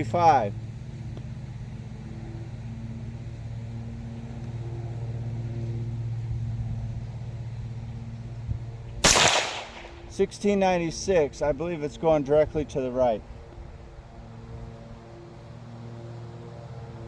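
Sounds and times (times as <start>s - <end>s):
low motor hum: 0.0s - 10.2s, 11.2s - 17.0s.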